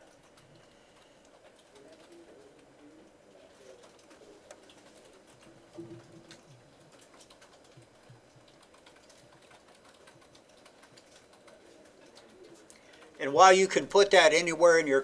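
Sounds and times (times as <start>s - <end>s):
typing on keyboards: 0.0s - 14.2s.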